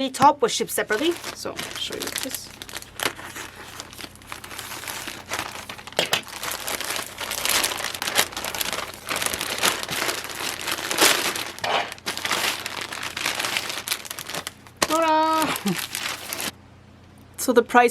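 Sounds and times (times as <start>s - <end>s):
packaging crinkling and rustling: 0.5s - 16.6s.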